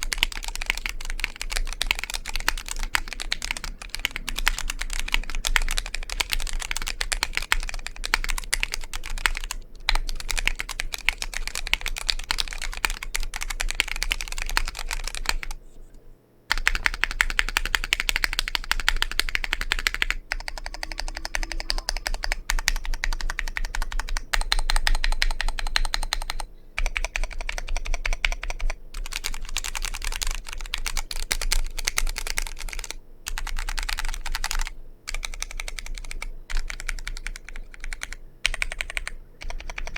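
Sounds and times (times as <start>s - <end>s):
fast typing on mechanical keyboard: 0.0s - 15.6s, 16.5s - 39.9s.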